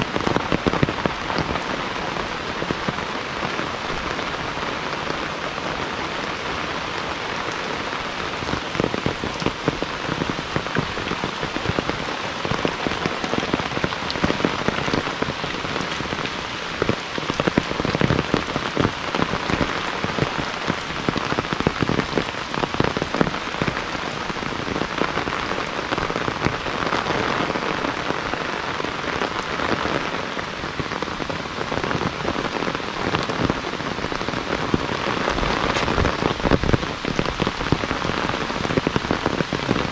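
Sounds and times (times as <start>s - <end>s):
heavy rain falling: 0.0s - 39.9s
raindrops striking hard: 0.0s - 39.9s.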